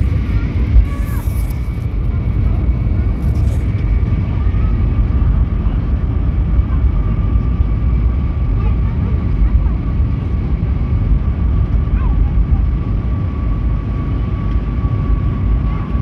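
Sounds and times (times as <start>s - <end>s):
aircraft cabin rumble: 0.0s - 16.0s
high engine whine: 0.0s - 16.0s.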